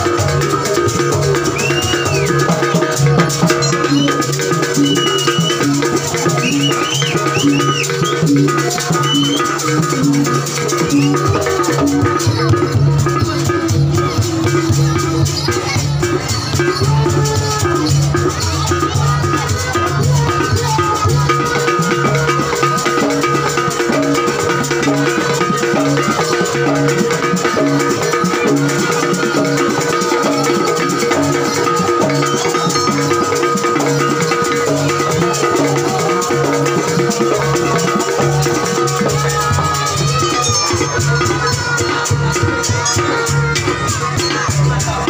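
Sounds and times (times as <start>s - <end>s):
drums and rattling percussion: 0.0s - 45.0s
tuned percussion notes: 0.0s - 45.0s.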